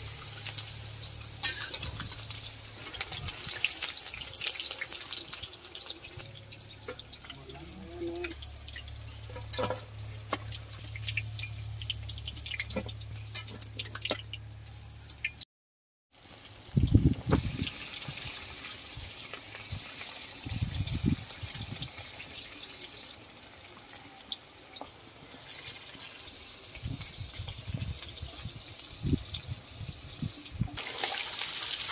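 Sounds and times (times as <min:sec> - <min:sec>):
chicken deep-frying in oil: 0:00.0 - 0:15.5, 0:16.1 - 0:31.9.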